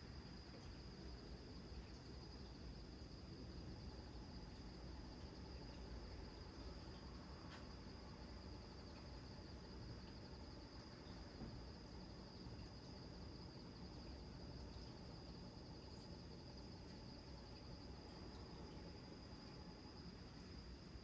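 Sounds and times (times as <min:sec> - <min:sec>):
crickets and insects trilling: 0:00.0 - 0:21.0.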